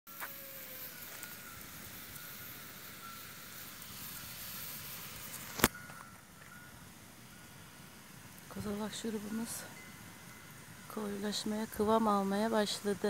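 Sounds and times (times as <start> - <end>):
syrup simmering hiss: 0.1 - 13.0.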